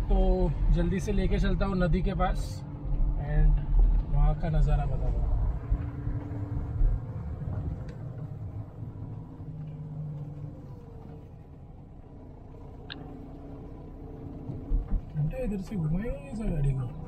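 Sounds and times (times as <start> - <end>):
car rumbling on dirt track: 0.0 - 17.0.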